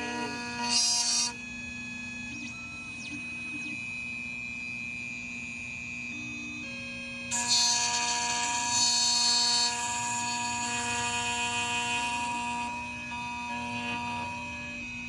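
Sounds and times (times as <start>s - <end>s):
key-cutting machine whining: 0.0s - 15.0s.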